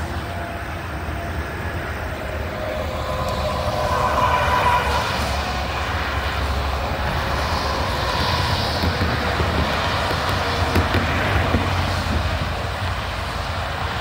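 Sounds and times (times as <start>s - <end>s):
highway traffic passing: 0.0s - 14.0s.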